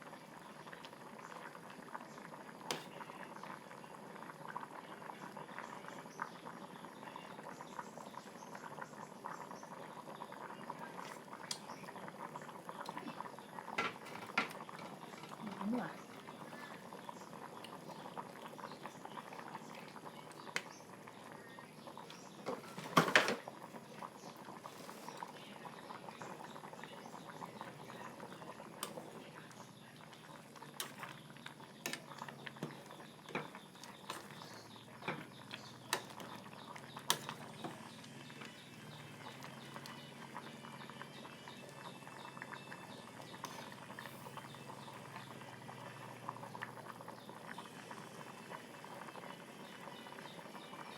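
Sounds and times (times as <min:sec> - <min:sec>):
curry bubbling in a pot: 0:00.0 - 0:50.9.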